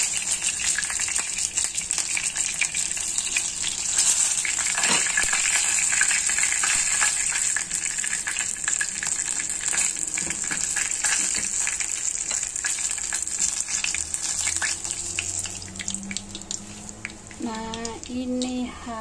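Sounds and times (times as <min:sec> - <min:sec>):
chicken deep-frying in oil: 0:00.0 - 0:18.7.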